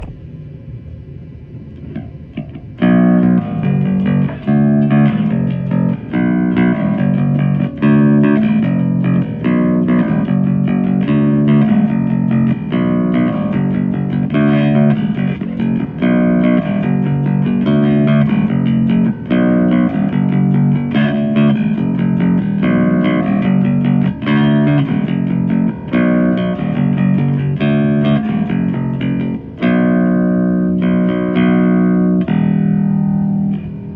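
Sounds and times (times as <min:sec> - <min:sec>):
electric bass guitar riff: 0:00.0 - 0:00.3, 0:01.8 - 0:33.9.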